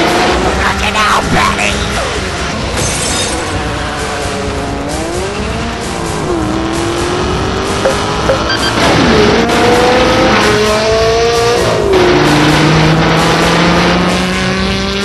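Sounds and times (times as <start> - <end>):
car engine accelerating: 0.0 - 2.8, 3.4 - 15.0
music: 0.4 - 15.0.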